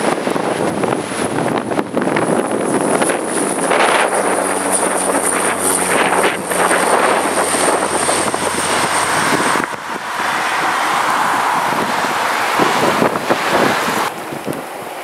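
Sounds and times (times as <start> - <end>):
turboprop engine drone and whine: 0.0 - 15.0
wind noise on microphone: 0.0 - 15.0.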